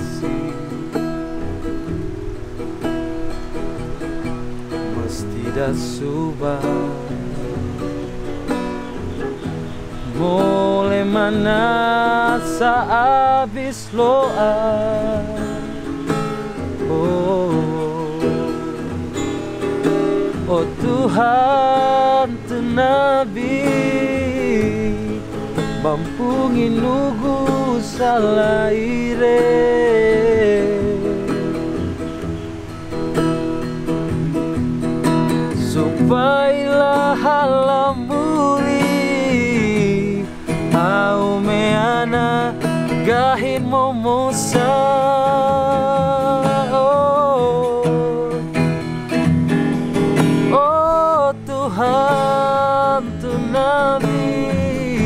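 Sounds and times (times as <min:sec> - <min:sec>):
man singing slow sad song: 0:00.0 - 0:01.4, 0:04.8 - 0:08.8, 0:09.4 - 0:32.1, 0:35.2 - 0:49.0, 0:50.2 - 0:55.0
acoustic guitar: 0:00.0 - 0:55.0.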